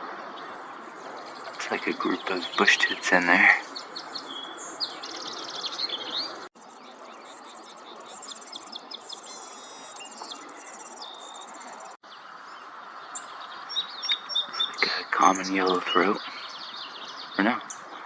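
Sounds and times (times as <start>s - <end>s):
birds twittering: 0.0s - 18.0s.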